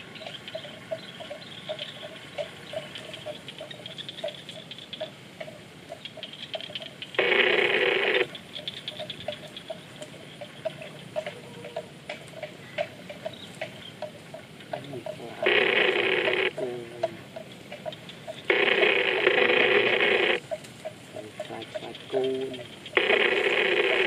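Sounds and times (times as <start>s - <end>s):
grass chewing ticks: 0.0s - 24.0s.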